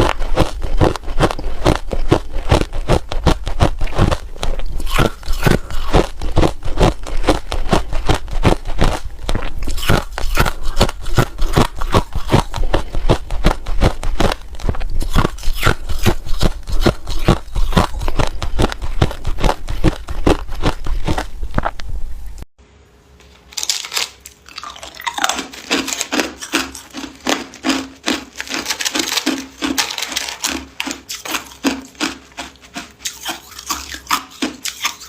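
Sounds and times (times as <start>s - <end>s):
ice being chewed: 0.0s - 21.8s, 23.6s - 35.0s.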